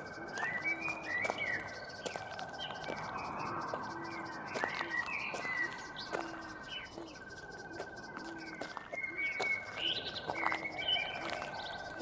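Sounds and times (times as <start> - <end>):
birds chirping: 0.0 - 12.0
pulsing insect trill: 0.0 - 12.0.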